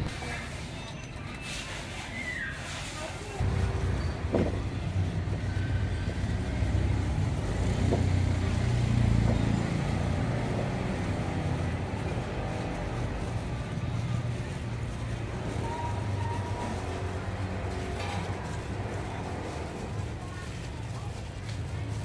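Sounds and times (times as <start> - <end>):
vehicle engine rumbling: 3.4 - 22.0.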